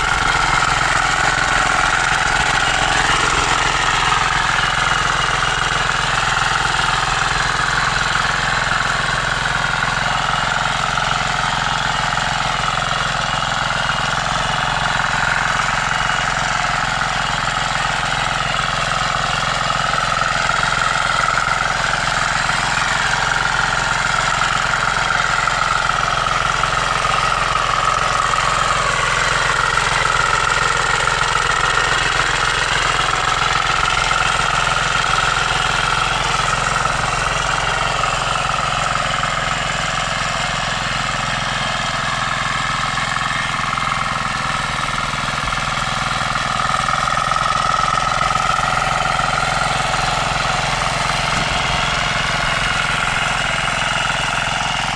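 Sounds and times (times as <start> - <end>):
power weeder engine running: 0.0 - 54.9.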